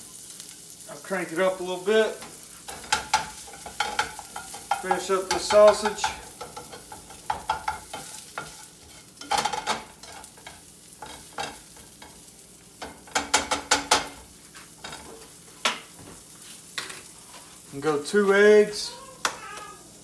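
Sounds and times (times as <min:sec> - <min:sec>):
sausage sizzling in a frying pan: 0:00.0 - 0:20.0.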